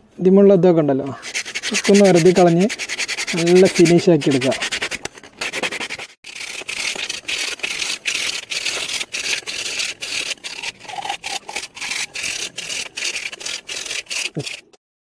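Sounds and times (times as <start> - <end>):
sandpaper scratching coconut shell: 1.2 - 14.8.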